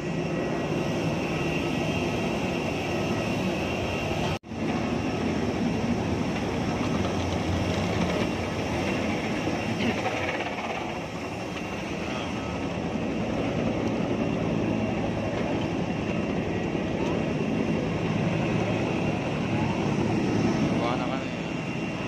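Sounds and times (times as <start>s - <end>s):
jet airliner engine running: 0.0s - 22.0s.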